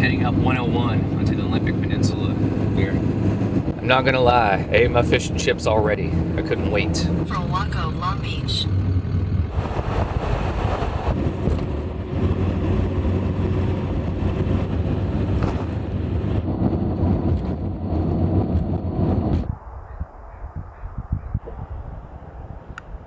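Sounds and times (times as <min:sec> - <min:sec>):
pickup truck driving at highway speed: 0:00.0 - 0:19.5.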